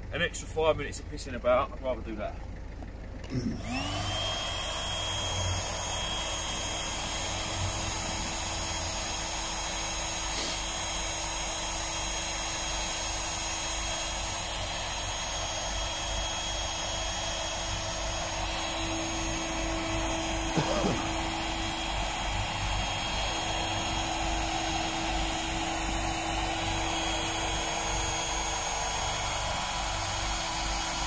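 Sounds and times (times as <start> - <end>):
electric air pump whining: 3.2 - 31.0.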